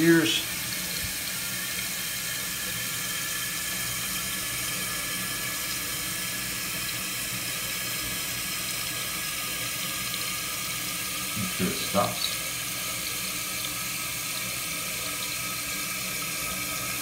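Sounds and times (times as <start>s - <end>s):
water running into toilet tank: 0.0s - 17.0s.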